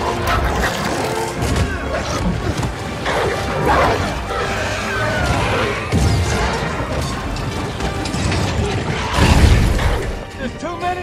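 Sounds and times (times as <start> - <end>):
action film music: 0.0 - 11.0.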